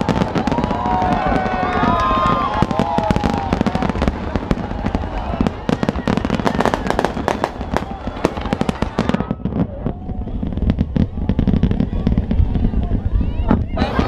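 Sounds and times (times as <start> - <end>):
fireworks crackling and banging: 0.0 - 14.0
large crowd voices: 0.0 - 14.0.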